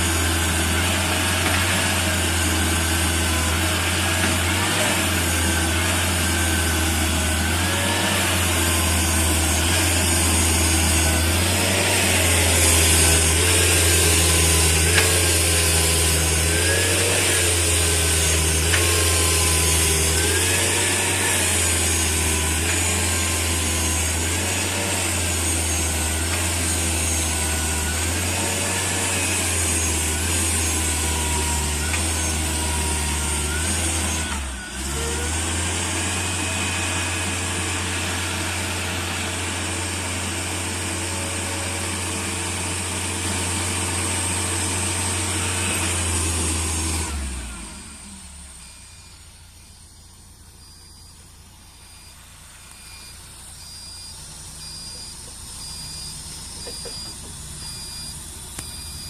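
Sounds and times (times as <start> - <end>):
forklift engine hum: 0.0 - 59.0
whining tone: 0.0 - 59.0.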